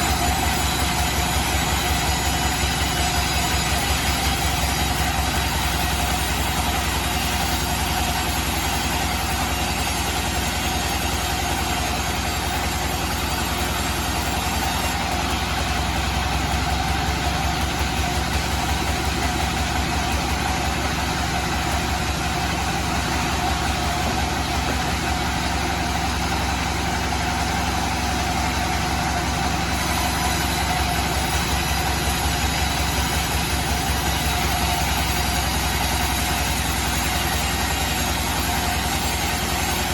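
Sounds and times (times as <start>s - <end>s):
sawmill machine drone: 0.0s - 39.9s
steady machine tone: 0.0s - 39.9s.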